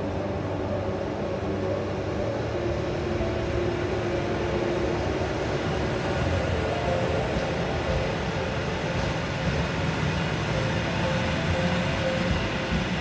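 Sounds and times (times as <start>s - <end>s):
humming held tones: 0.0s - 13.0s
train wheels rumbling on rails: 2.0s - 13.0s.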